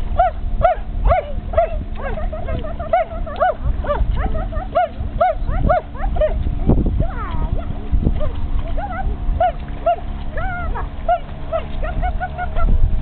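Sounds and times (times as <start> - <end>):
dog yelping: 0.2 - 6.4, 8.2 - 12.8.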